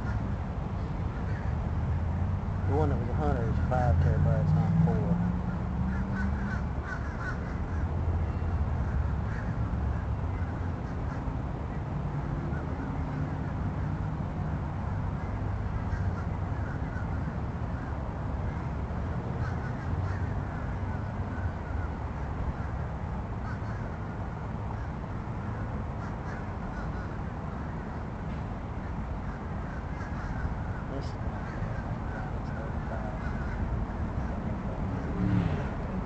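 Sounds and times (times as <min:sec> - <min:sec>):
birds calling: 0:00.0 - 0:02.0, 0:04.6 - 0:14.1, 0:14.8 - 0:36.0.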